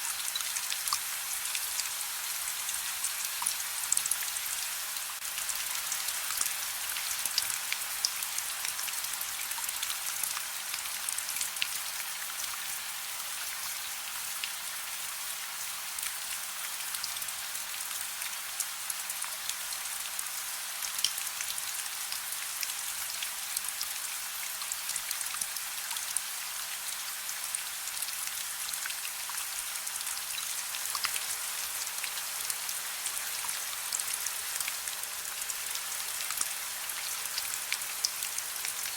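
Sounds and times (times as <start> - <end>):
soft rain hiss: 0.0 - 38.9.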